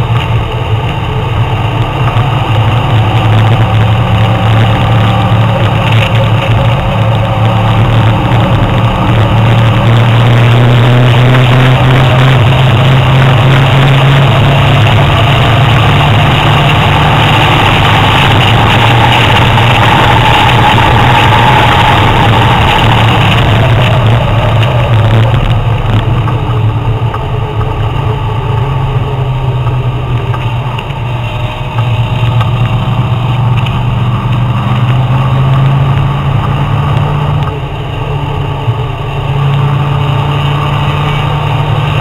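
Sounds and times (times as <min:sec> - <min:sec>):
car engine: 0:00.0 - 0:42.0
wind rush inside car: 0:00.0 - 0:42.0.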